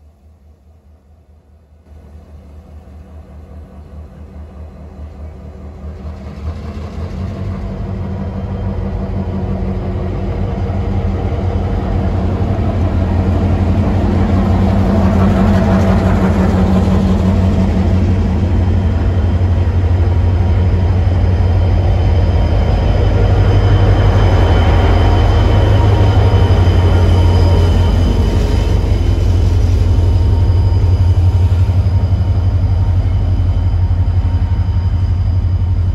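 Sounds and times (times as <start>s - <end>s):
locomotive engine drone: 1.9s - 35.9s.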